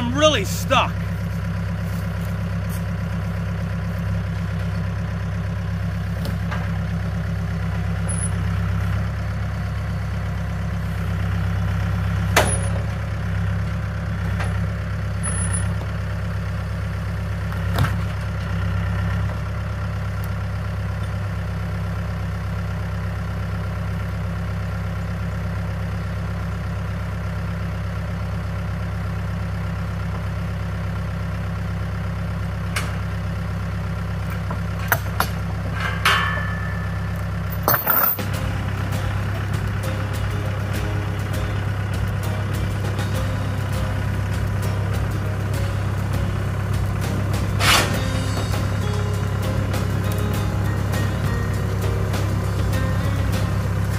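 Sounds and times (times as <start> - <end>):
tractor diesel engine idling: 0.0 - 53.9.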